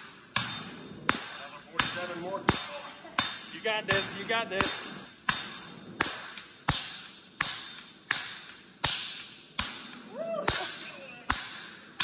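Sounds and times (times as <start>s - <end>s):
hammer striking steel on anvil: 0.0s - 12.0s.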